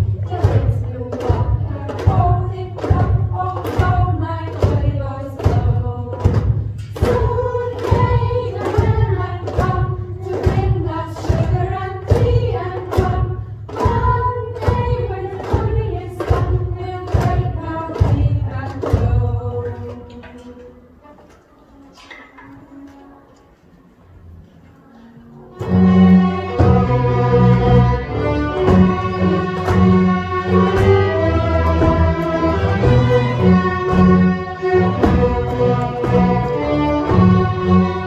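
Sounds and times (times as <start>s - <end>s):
thumping beat: 0.0s - 19.4s, 25.9s - 38.0s
children singing: 0.0s - 23.7s, 25.0s - 38.0s
pitched accompaniment: 0.0s - 23.7s, 25.3s - 38.0s.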